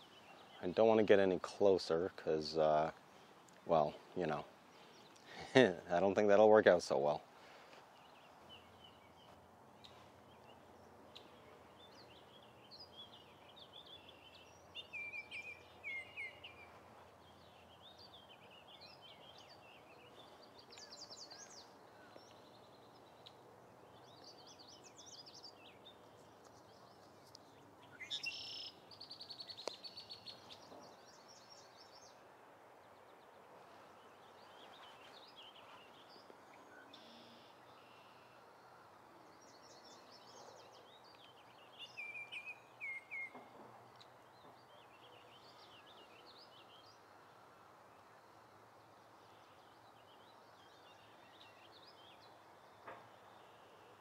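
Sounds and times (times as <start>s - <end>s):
songbirds chirping and singing: 0.0s - 47.4s, 48.0s - 54.0s
outdoor hush: 0.0s - 54.0s.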